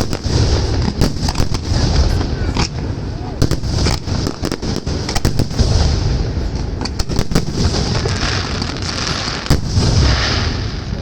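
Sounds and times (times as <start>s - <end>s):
fireworks bangs and crackles: 0.0s - 11.0s
low rumble of shells bursting: 0.0s - 11.0s.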